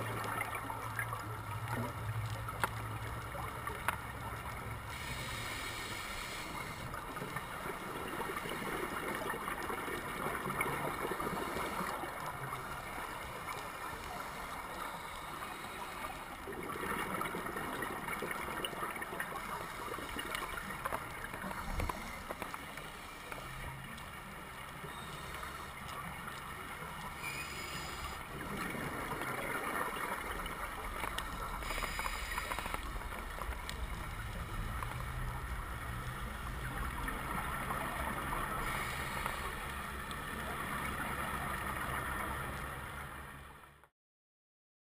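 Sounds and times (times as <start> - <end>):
underwater rushing gurgling water: 0.0 - 43.6.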